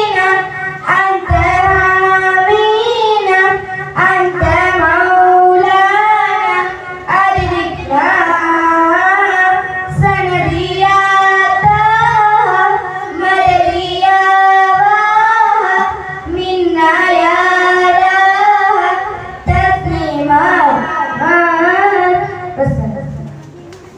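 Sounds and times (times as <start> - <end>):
girls singing through pa: 0.0 - 22.9.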